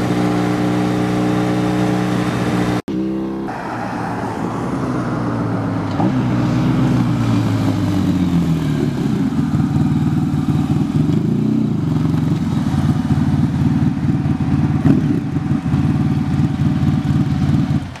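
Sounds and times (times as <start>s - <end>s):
motorcycle engine running: 0.0s - 3.5s, 5.1s - 18.0s.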